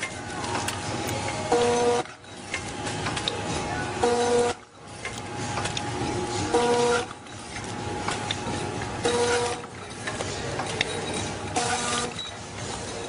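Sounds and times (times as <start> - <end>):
packing machine clattering: 0.0 - 13.0.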